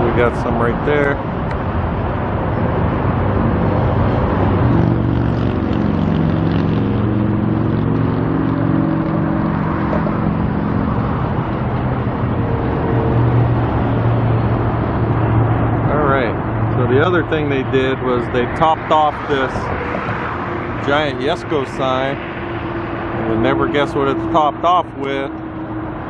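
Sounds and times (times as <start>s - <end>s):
cars passing: 0.0s - 26.0s
vehicle engine humming: 0.0s - 26.0s.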